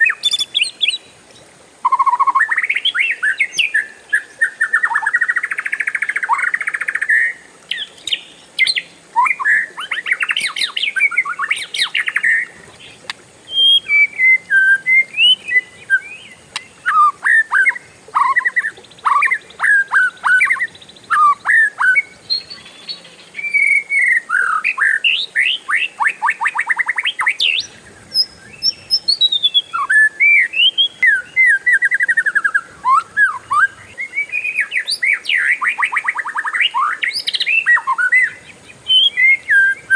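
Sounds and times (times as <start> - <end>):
bird singing with trills: 1.8 - 39.9.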